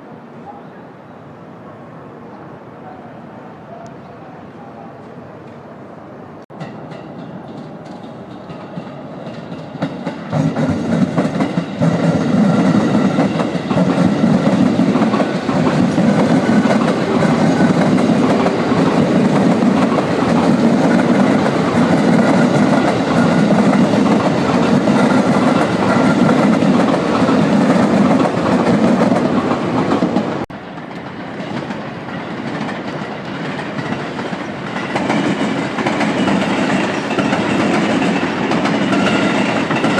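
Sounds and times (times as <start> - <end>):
train wheels clickety-clack: 6.5 - 39.9.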